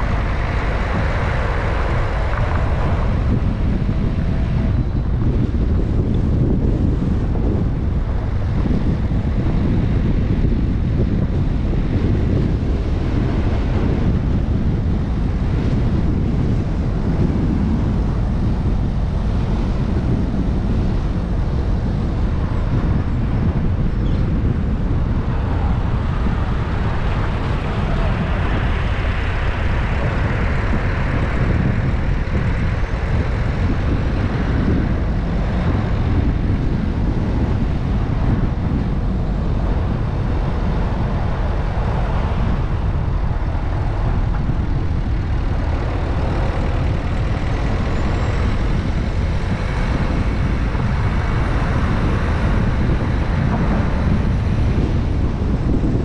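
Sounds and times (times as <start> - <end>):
tyre and road rumble: 0.0 - 56.0.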